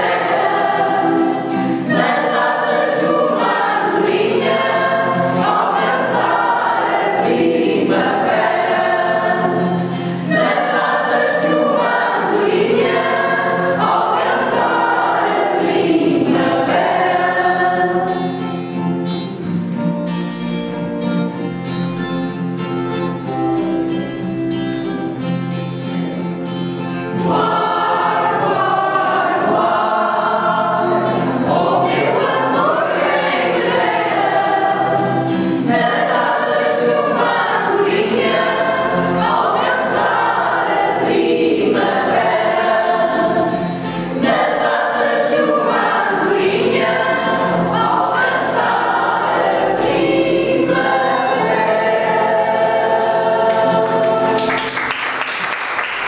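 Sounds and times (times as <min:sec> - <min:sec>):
mixed choir singing: 0:00.0 - 0:19.4, 0:26.9 - 0:56.0
acoustic guitar accompaniment: 0:00.0 - 0:56.0.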